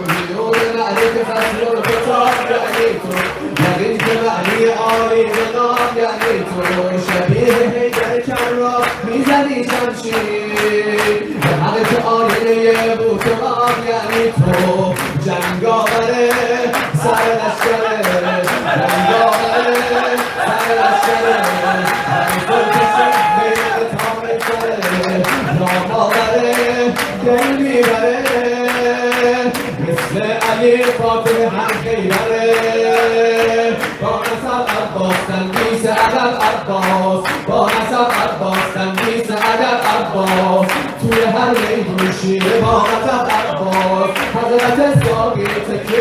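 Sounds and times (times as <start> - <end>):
man singing into a microphone: 0.0 - 46.0
rhythmic clapping: 0.0 - 46.0.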